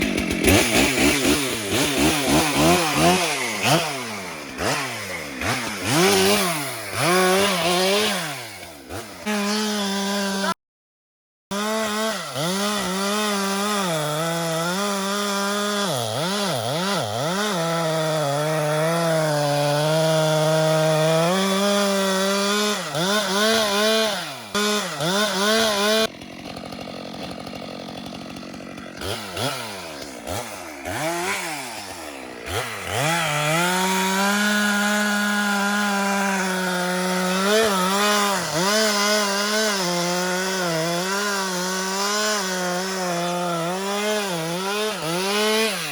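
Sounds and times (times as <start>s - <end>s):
chainsaw cutting wood: 0.0s - 10.6s, 11.5s - 45.9s.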